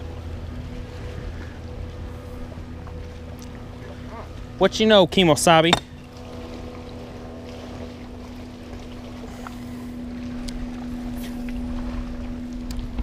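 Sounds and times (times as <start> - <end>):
wind rumbling on microphone: 0.0 - 4.6, 5.8 - 13.0
electric trolling motor whine: 0.0 - 13.0.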